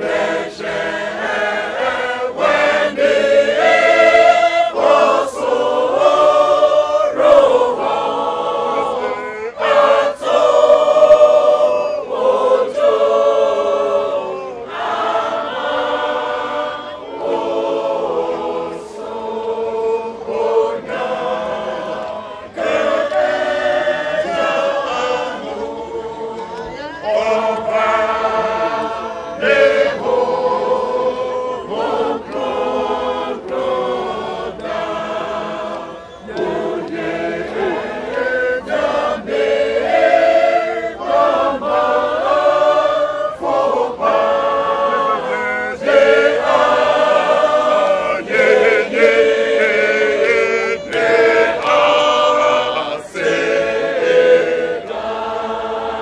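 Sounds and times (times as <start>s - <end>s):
mixed choir singing a hymn: 0.0s - 56.0s.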